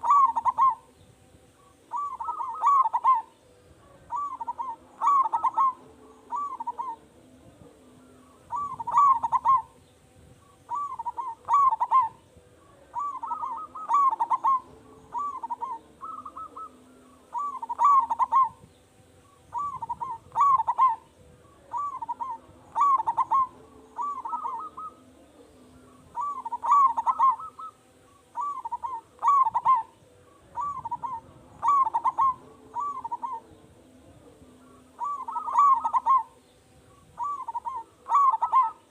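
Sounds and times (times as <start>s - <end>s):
dove cooing: 0.0s - 1.0s, 1.6s - 38.9s.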